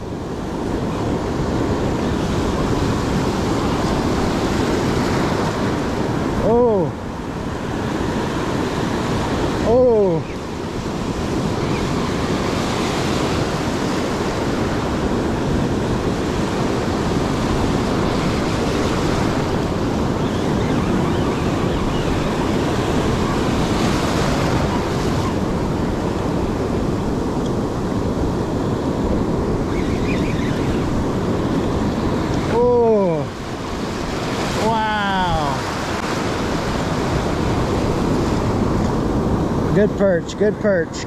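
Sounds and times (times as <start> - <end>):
ocean surf breaking: 0.0 - 41.0
wind on microphone: 0.0 - 41.0.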